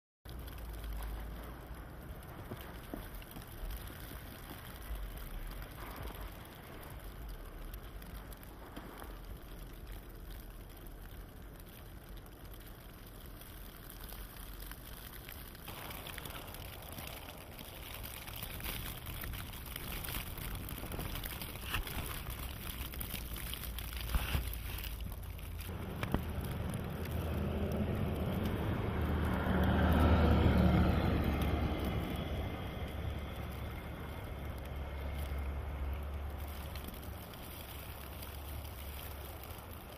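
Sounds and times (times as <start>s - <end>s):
blizzard wind blowing: 0.3s - 39.9s
low engine rumble: 0.3s - 39.9s.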